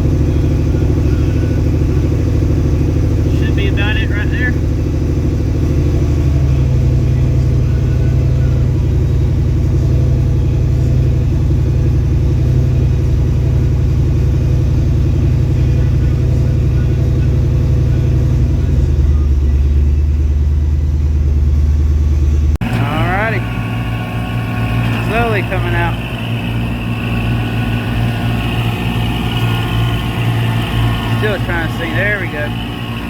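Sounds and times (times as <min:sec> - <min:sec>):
vehicle engine droning: 0:00.0 - 0:33.0.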